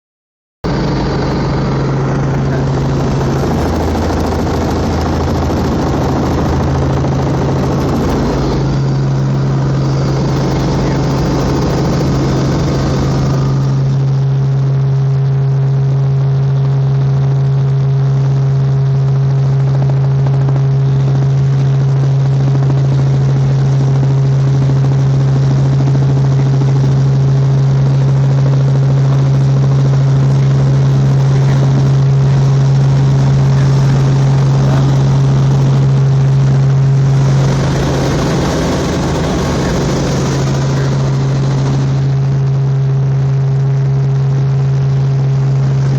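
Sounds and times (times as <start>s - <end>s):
helicopter engine and rotors droning: 0.7s - 45.9s.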